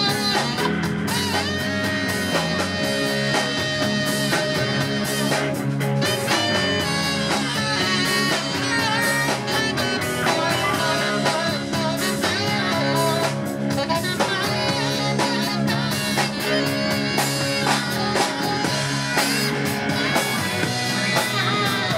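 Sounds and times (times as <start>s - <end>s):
live blues-rock band: 0.0s - 21.9s
saxophone melody: 0.0s - 21.9s.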